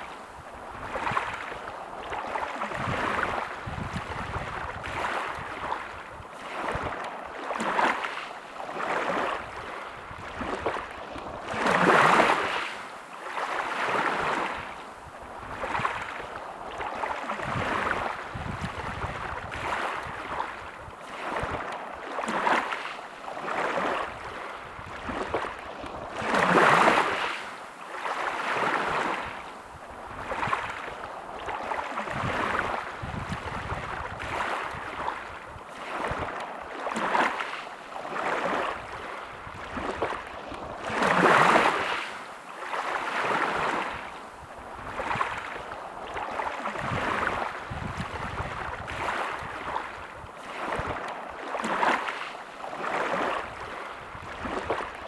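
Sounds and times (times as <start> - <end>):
sea waves breaking on a beach: 0.0 - 55.0.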